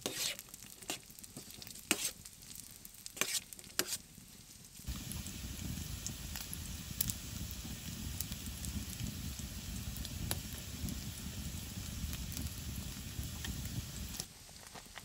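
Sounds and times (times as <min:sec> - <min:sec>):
sausage sizzling in a pan: 0:00.0 - 0:04.2, 0:04.8 - 0:14.3.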